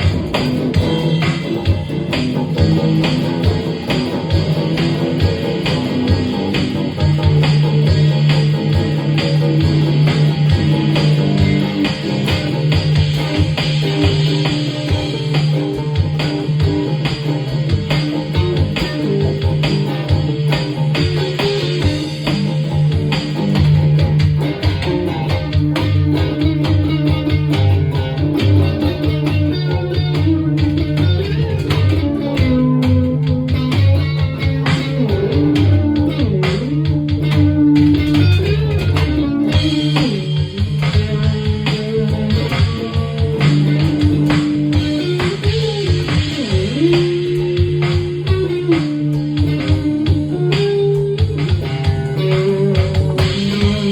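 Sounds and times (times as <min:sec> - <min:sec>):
bass guitar: 0:00.0 - 0:53.9
electric guitar: 0:00.0 - 0:53.9
steady drum beat: 0:00.0 - 0:53.9.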